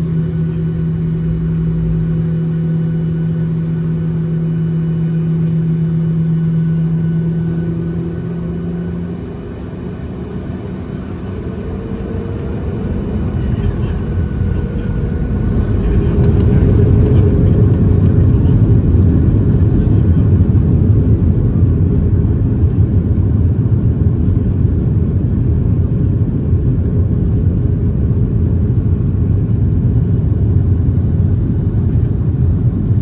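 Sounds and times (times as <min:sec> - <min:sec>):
jet engines rumbling at takeoff: 0:00.0 - 0:33.0.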